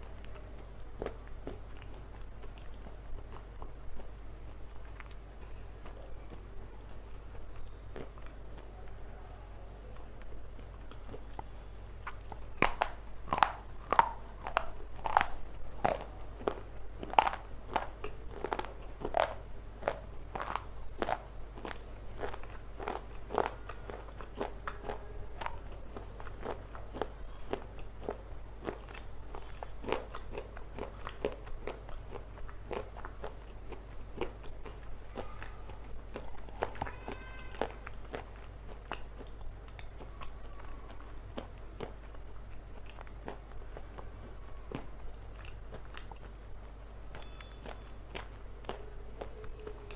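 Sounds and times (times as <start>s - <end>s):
crunchy food chewing: 0.0s - 49.9s.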